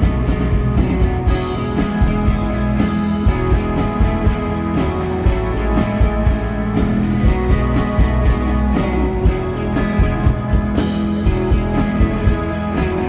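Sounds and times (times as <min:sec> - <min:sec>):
bass guitar: 0:00.0 - 0:13.0
drum kit beat: 0:00.0 - 0:13.0
electric guitar: 0:00.0 - 0:13.0.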